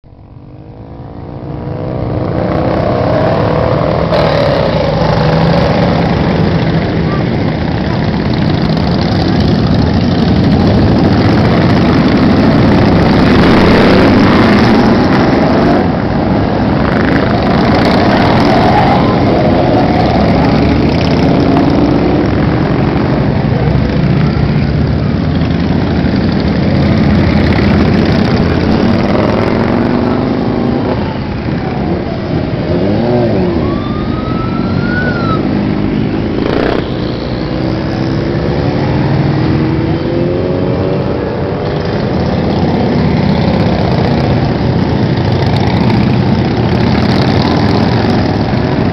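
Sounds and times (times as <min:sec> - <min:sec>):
motorcycle engines revving: 0:00.1 - 0:48.9.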